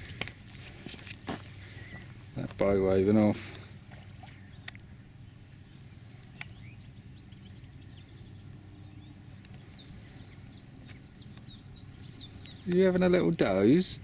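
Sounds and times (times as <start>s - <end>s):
quiet outdoor background: 0.0s - 14.0s
small songbirds chirping: 0.0s - 14.0s.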